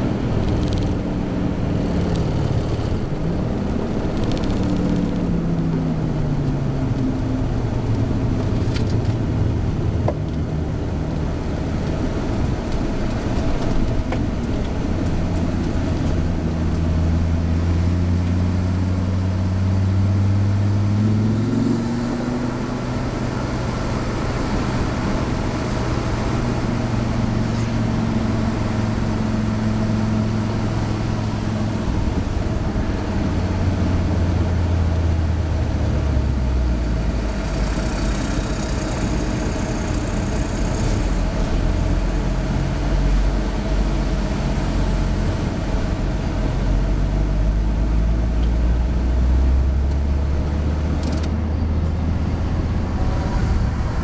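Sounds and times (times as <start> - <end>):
car engine from inside cabin: 0.0 - 54.0
tyre and road noise: 0.0 - 54.0.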